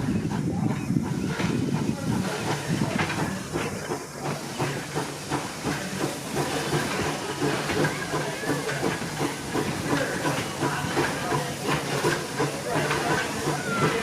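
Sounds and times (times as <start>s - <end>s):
steam hissing: 0.0s - 14.0s
steam locomotive beat: 0.0s - 14.0s.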